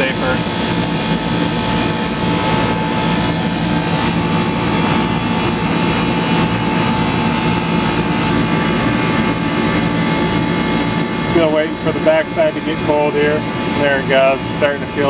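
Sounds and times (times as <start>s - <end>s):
compressor humming: 0.0s - 15.0s
condenser fan blowing: 0.0s - 15.0s
steady tones: 0.0s - 15.0s.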